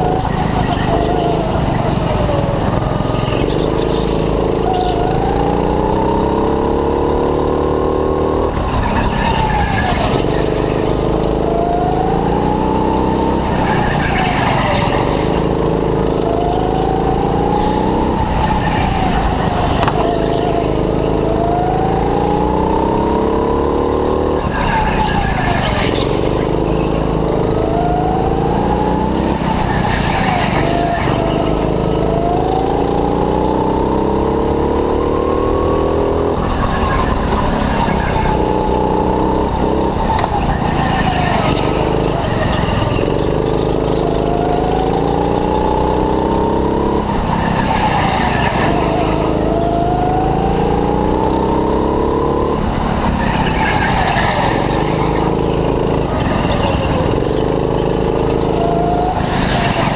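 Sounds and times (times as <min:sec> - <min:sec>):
tyre squeal: 0:00.0 - 0:05.6, 0:08.4 - 0:12.0, 0:12.7 - 0:22.0, 0:23.2 - 0:32.5, 0:36.3 - 0:59.9
go-kart engine revving: 0:00.0 - 0:59.9.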